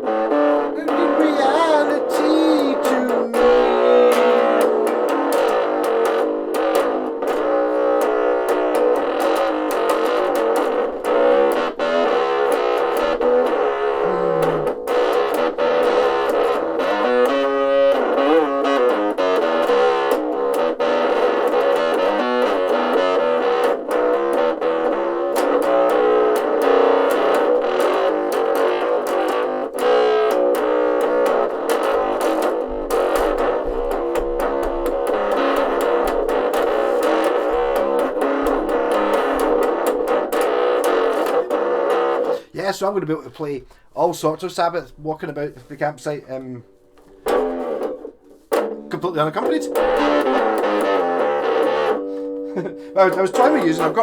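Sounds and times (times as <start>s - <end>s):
distorted electric bass guitar: 0.0s - 42.9s, 46.6s - 54.0s.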